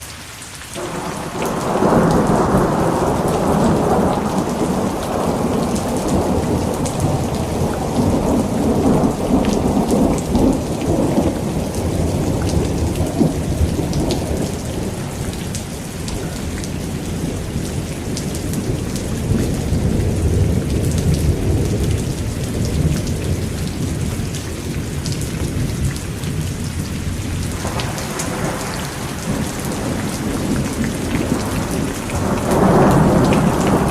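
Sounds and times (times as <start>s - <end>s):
heavy rain falling: 0.0s - 33.9s
thunder rumbling: 0.8s - 33.9s.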